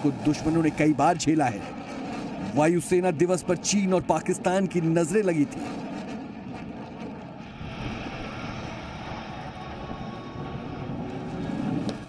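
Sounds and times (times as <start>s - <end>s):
jet aircraft flying overhead: 0.0s - 12.0s.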